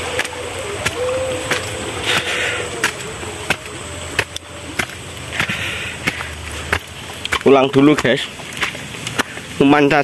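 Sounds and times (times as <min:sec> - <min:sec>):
footsteps on dirt path: 0:00.0 - 0:09.6
background hiss: 0:00.0 - 0:10.0.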